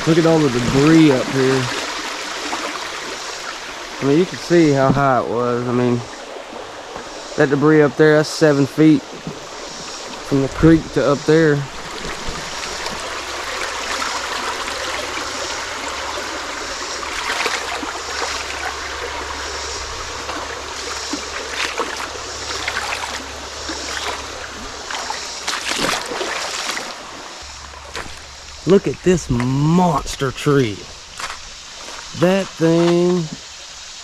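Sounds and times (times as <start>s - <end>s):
creek water flowing: 0.0s - 34.0s.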